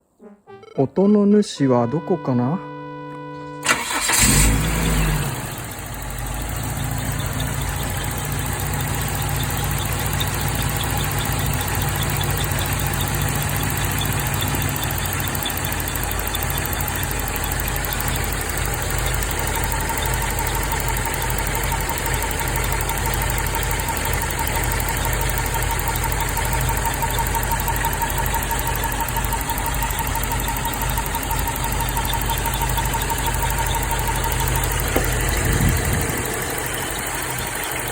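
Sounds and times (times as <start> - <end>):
car engine starting and idling: 3.2 - 37.9
thin steady whine: 6.9 - 37.9.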